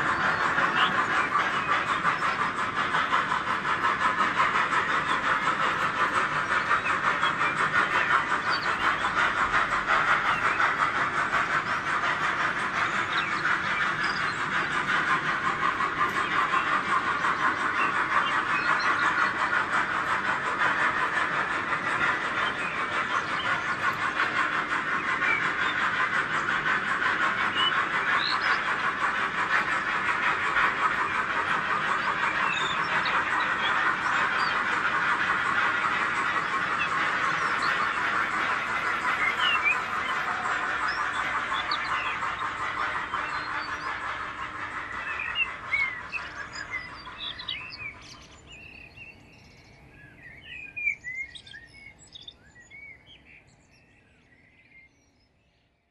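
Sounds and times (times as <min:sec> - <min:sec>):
model train wheels rattling on rails: 0:00.0 - 0:52.2.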